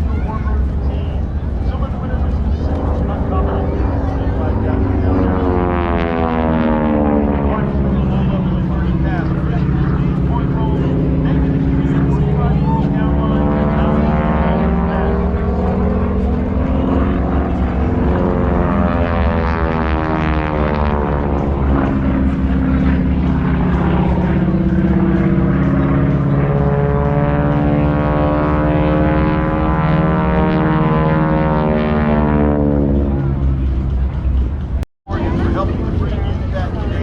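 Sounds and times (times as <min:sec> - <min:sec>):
propeller airplane engine: 0:00.0 - 0:37.0.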